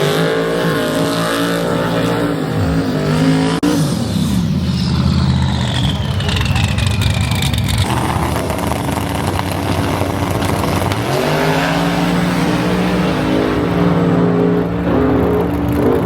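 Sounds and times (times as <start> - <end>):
racing car engines running: 0.0 - 16.0.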